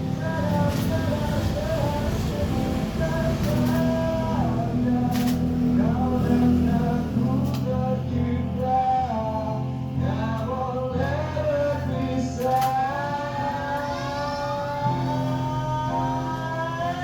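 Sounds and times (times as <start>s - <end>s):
background music melody: 0.0s - 17.0s.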